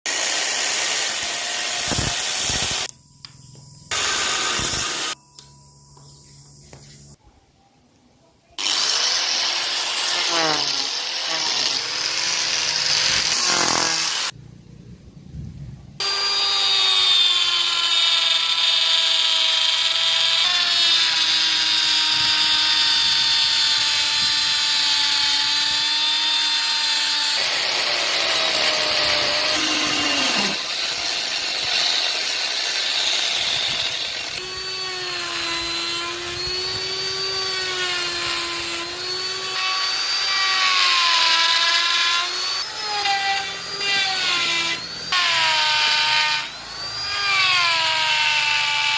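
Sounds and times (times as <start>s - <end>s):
power tool cutting wood: 0.1s - 2.9s, 3.9s - 5.2s, 8.6s - 14.4s, 16.0s - 48.9s.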